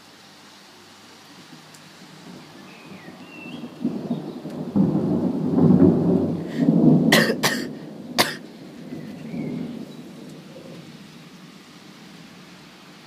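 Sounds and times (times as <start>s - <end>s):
thunder rumbling: 1.5s - 12.7s.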